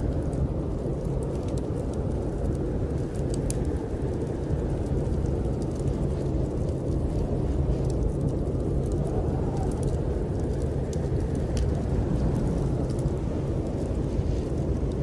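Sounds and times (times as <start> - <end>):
snowstorm wind rushing: 0.0 - 15.0
wood fire crackling: 0.0 - 15.0.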